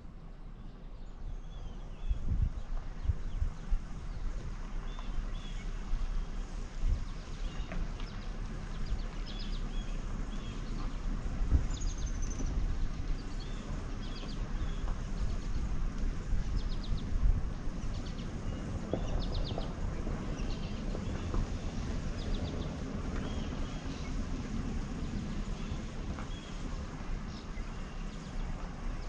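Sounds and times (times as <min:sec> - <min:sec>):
steady low rumble: 0:00.0 - 0:29.0
small birds chirping: 0:00.5 - 0:29.0.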